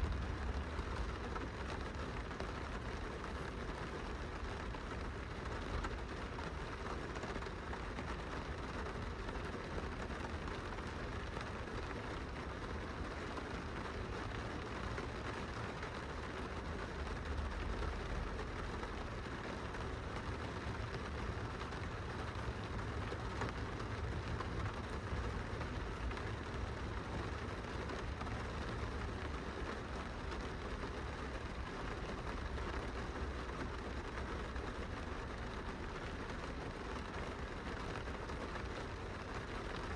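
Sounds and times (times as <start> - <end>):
constant low rumble: 0.0 - 39.9
rain pattering on window glass: 0.0 - 39.9.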